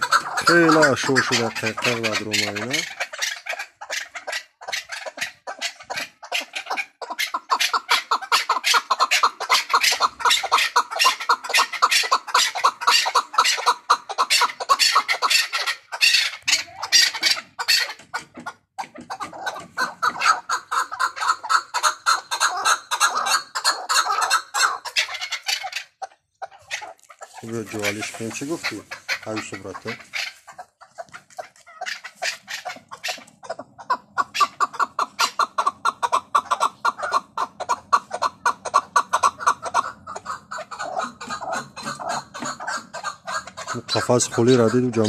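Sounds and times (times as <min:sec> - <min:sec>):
partridge chuck calls: 0:00.0 - 0:45.0.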